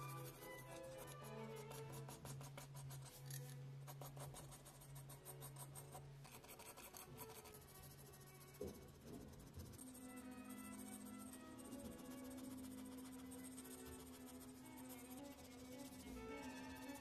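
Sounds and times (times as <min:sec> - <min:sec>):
faint background music: 0:00.0 - 0:17.0
pencil scratching on paper: 0:00.0 - 0:17.0.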